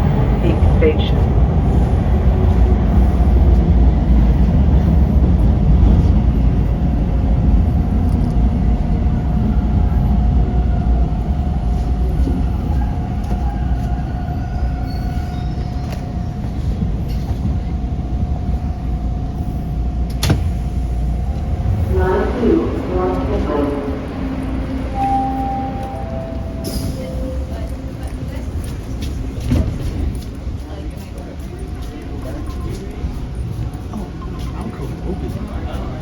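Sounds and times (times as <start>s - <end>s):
subway train rumble: 0.0s - 36.0s.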